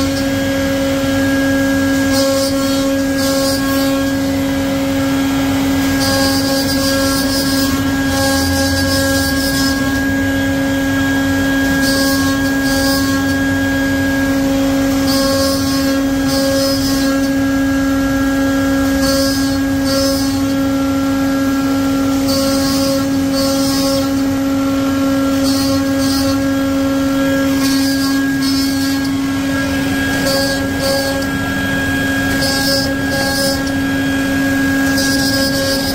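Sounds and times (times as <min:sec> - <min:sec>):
router bit cutting wood hiss: 0:00.0 - 0:35.9
router spindle whine: 0:00.0 - 0:35.9.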